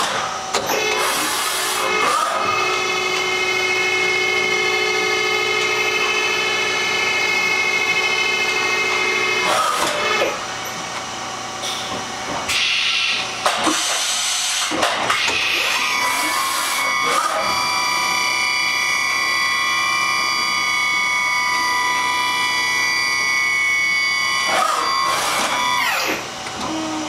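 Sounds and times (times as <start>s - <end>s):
machine whine: 0.0s - 27.0s.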